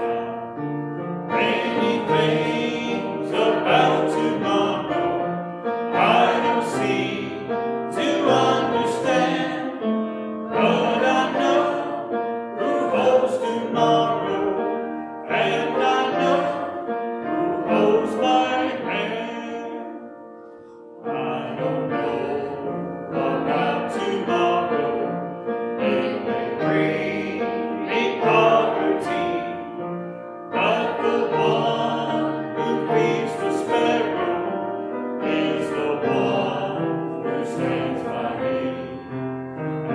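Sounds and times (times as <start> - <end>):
congregation singing a hymn: 0.0 - 39.9
piano accompaniment: 0.0 - 39.9.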